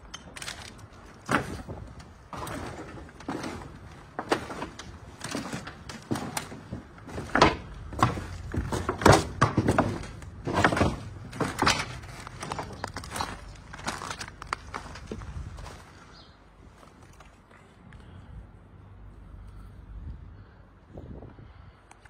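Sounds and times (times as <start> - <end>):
footsteps crunching over rubble: 0.0 - 17.9.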